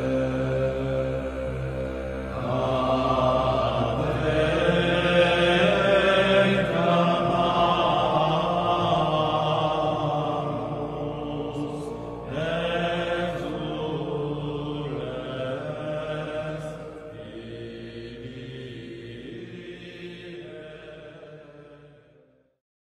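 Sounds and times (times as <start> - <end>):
low sustained chanting voices: 0.0 - 22.4.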